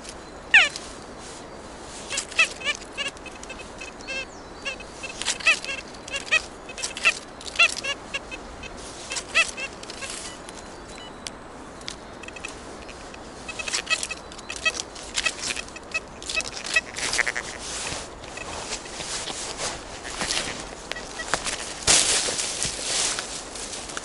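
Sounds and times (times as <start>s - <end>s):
harsh repeated bird calls: 0.0s - 1.0s, 1.6s - 23.2s
distant road noise: 0.0s - 24.0s
wind hiss: 0.0s - 24.0s.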